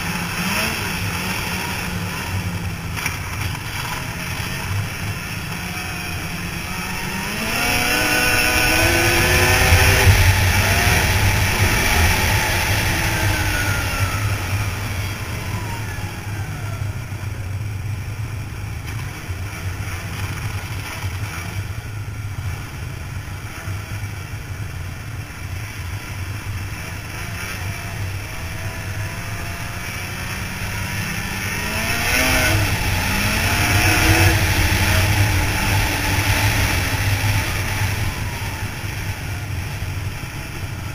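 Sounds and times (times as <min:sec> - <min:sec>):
snowmobile engine revving: 0:00.0 - 0:18.2, 0:25.6 - 0:40.9.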